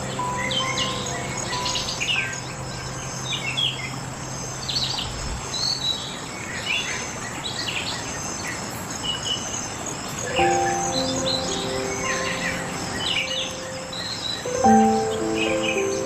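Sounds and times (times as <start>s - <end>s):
insect hum: 0.0s - 7.2s, 9.5s - 16.0s
songbirds chirping: 0.0s - 16.0s.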